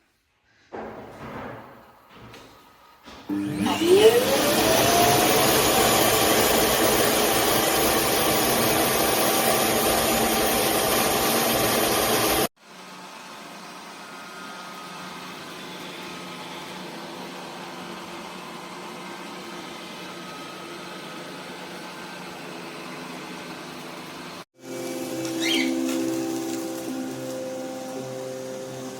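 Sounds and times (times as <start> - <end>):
robot vacuum running: 3.3 - 12.5, 13.9 - 28.9.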